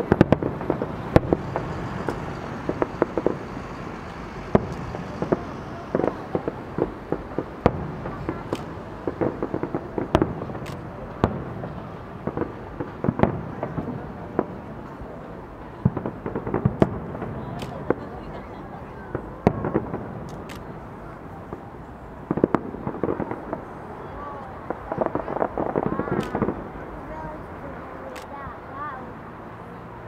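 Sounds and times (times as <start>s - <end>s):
fireworks bangs and pops: 0.0s - 28.6s
steady background noise: 0.0s - 30.0s.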